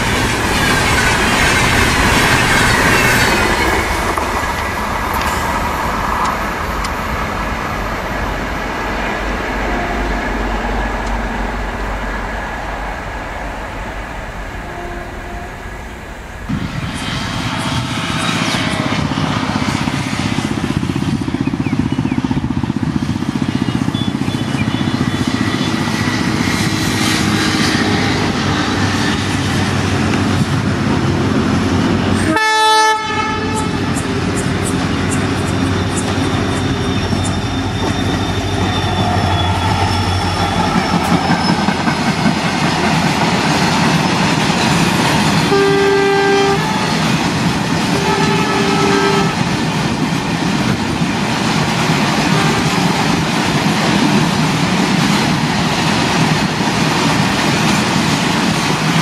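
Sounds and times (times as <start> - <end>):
diesel locomotive engine hum: 0.0 - 59.0
express train rushing past: 0.0 - 59.0.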